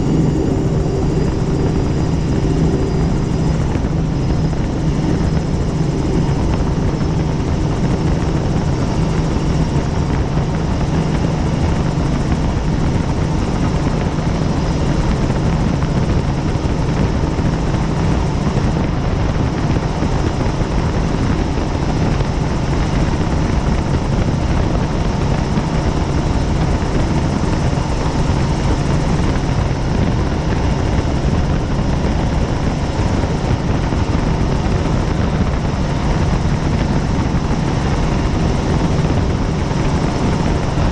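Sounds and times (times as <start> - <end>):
helicopter rotor and turbine drone: 0.0 - 40.9.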